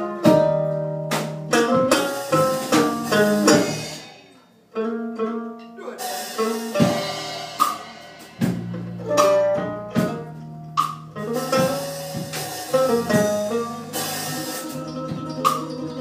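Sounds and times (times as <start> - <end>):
acoustic guitar: 0.0 - 16.0
mandolin: 0.0 - 16.0.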